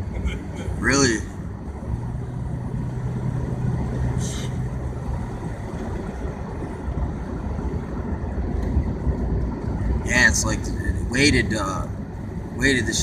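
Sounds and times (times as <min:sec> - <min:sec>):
engine and tyres rumbling: 0:00.0 - 0:13.0.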